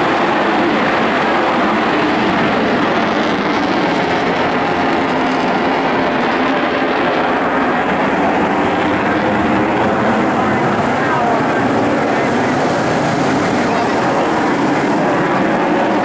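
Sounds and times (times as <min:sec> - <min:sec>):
loud fighter jet noise: 0:00.0 - 0:16.0.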